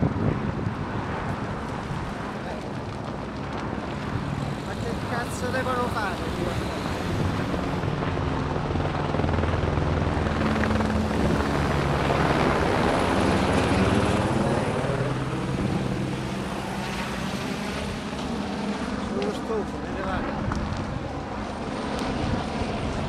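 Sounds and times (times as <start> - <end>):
helicopter rotor and engine drone: 0.0 - 23.0.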